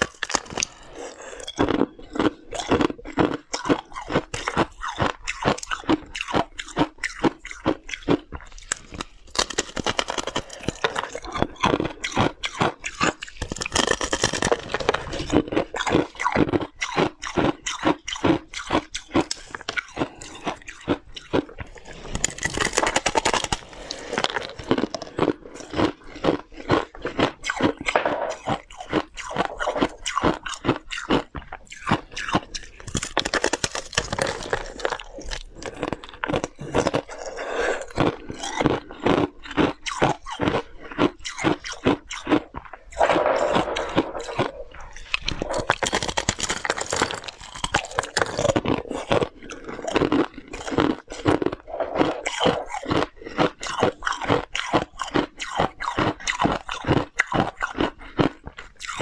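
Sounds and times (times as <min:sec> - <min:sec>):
crunching and chewing frost: 0:00.0 - 0:59.0.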